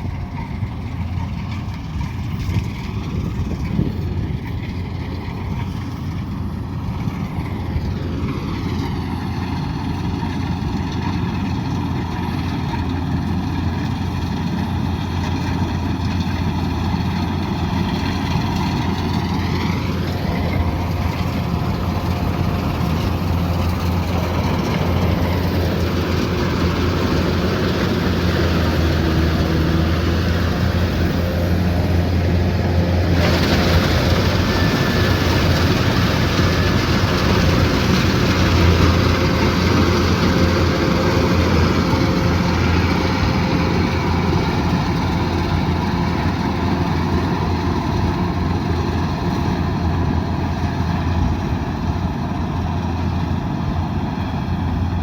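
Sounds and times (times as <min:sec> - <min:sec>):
combine harvester engine humming: 0:00.0 - 0:55.0.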